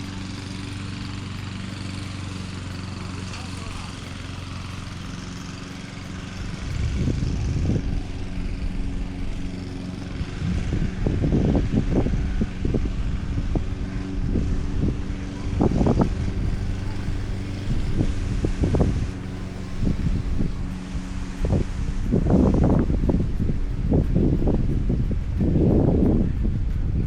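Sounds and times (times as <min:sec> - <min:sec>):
motor engine humming: 0:00.0 - 0:27.0
low rumbling surges: 0:02.1 - 0:27.0.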